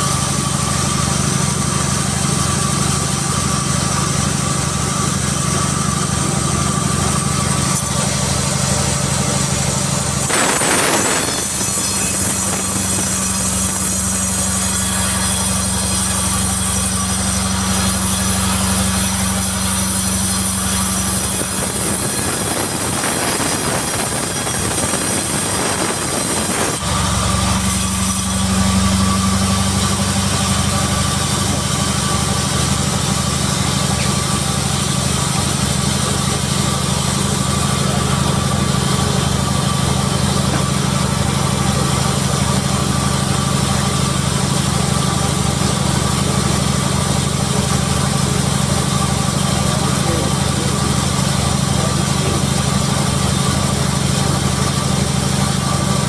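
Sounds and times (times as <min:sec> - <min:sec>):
rough noisy machine sound: 0:00.0 - 0:56.0
sawmill machinery humming: 0:00.0 - 0:56.0.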